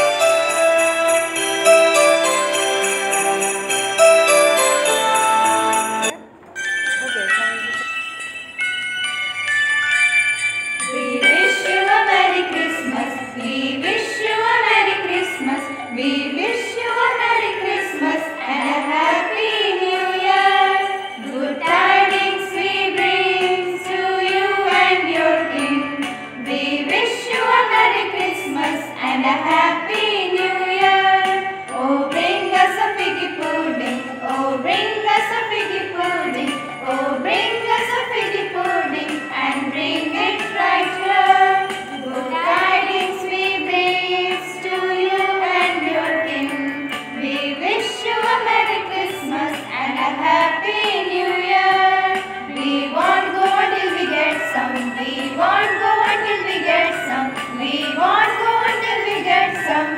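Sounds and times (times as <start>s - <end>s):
jingle bells shaken: 0.0s - 59.9s
person singing over music: 10.8s - 59.9s.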